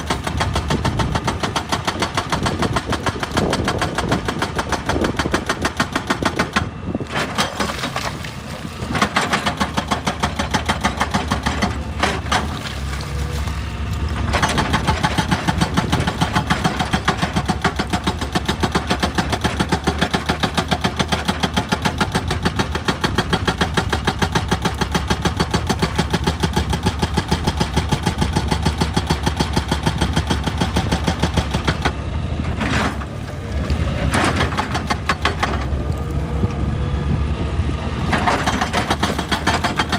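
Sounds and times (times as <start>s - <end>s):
excavator diesel engine pulsing: 0.0s - 39.9s.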